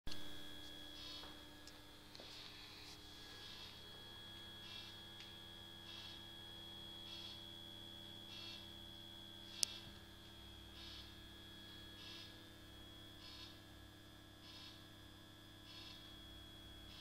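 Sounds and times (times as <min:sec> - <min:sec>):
faint electrical hum: 0:00.1 - 0:17.0
soft buzzy pulse: 0:00.1 - 0:17.0.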